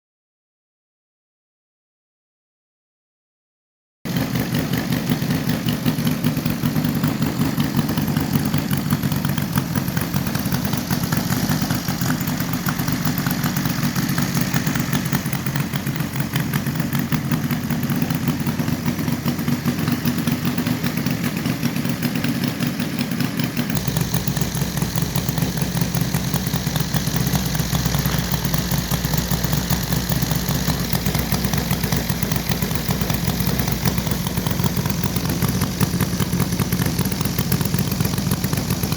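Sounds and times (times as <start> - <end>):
model airplane engine running: 4.1 - 21.0, 23.7 - 38.9.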